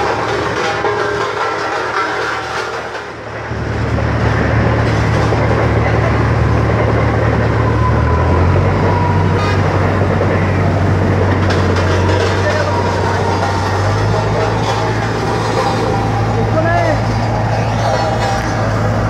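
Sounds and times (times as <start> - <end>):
road roller engine drone: 0.0 - 19.0.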